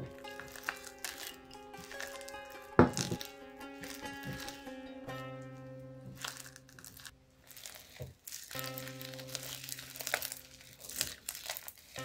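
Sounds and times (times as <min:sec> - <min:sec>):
crunchy slime crackling: 0:00.0 - 0:04.7, 0:06.0 - 0:12.0
background music with held note: 0:00.0 - 0:07.3, 0:08.6 - 0:11.1.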